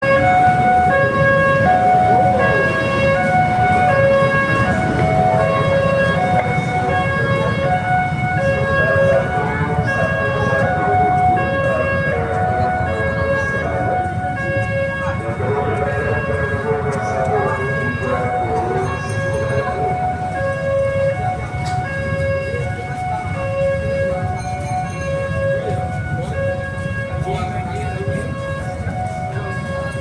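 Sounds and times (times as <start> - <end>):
background hubbub: 0.0 - 30.0
two-tone hi-lo siren: 0.0 - 30.0.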